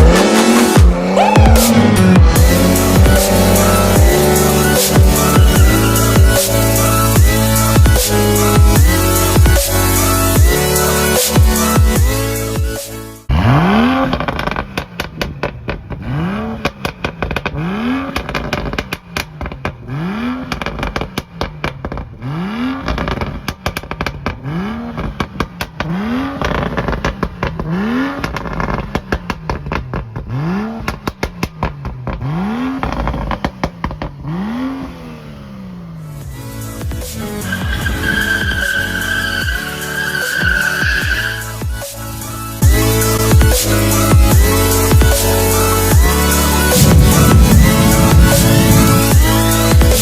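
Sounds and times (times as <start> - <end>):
exhaust pops and crackles: 0.0 - 12.3, 13.3 - 50.0
car engine revving: 0.0 - 50.0.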